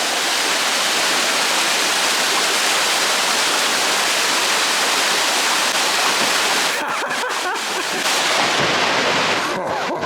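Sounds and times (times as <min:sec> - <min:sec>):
waterfall roaring: 0:00.0 - 0:09.6.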